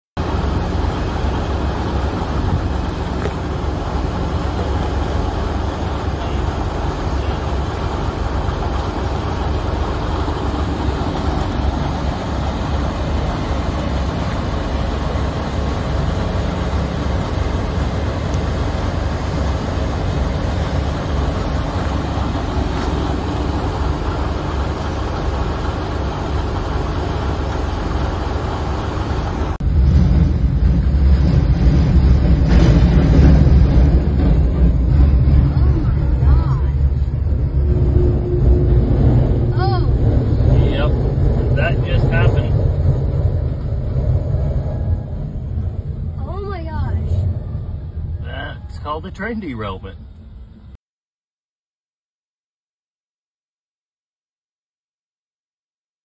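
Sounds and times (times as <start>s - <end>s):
diesel locomotive idling rumble: 0.2s - 50.8s.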